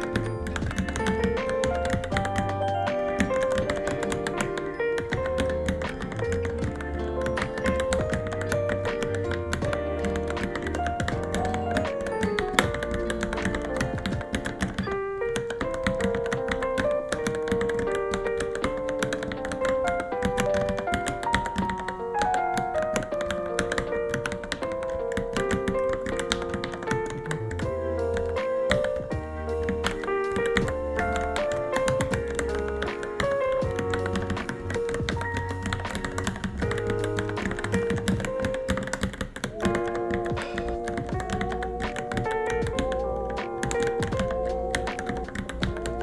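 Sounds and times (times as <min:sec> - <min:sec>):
mechanical keyboard typing: 0:00.0 - 0:46.0
melodic background music: 0:00.0 - 0:46.0.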